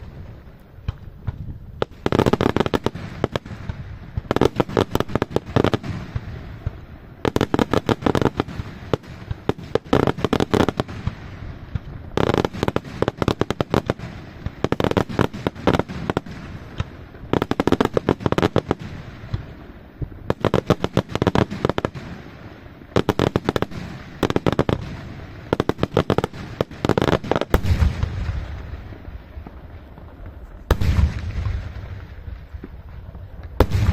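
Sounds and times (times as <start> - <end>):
fireworks bangs: 0.0 - 33.9.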